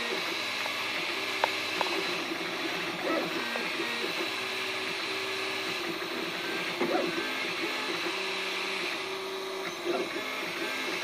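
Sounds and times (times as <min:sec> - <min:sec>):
printer stepper motors whining: 0:00.0 - 0:11.0.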